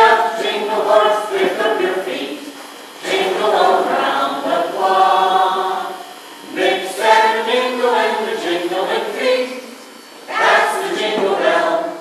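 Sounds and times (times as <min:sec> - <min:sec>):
mixed choir singing a carol: 0:00.0 - 0:12.0.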